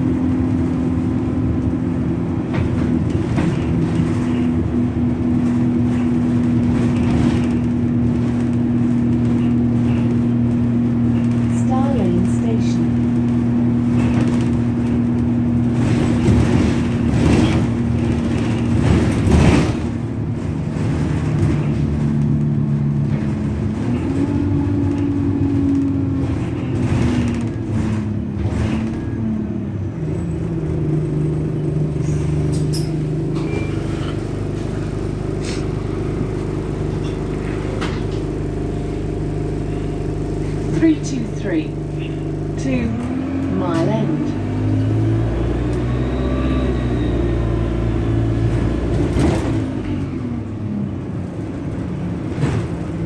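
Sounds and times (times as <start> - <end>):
knocks and rattles from bus body: 0.0 - 44.4, 47.5 - 53.0
bus engine drone: 0.0 - 53.0.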